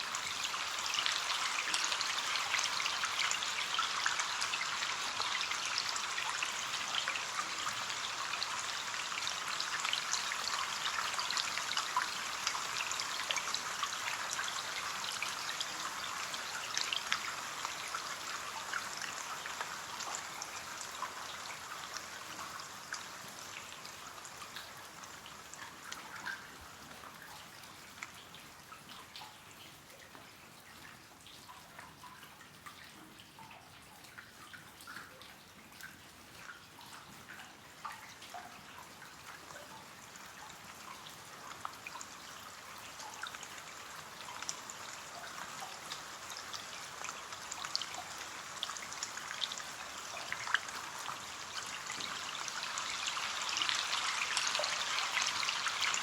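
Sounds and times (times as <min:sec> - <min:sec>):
rain tapping on a window: 0:00.0 - 0:56.0.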